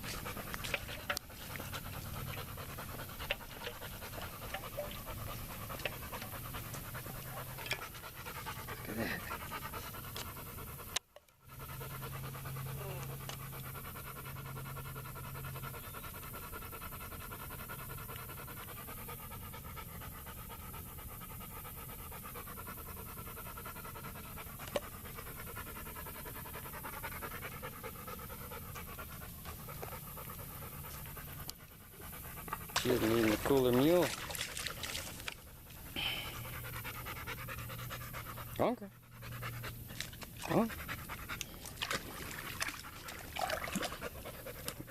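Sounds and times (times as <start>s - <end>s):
dog panting: 0.0s - 44.9s.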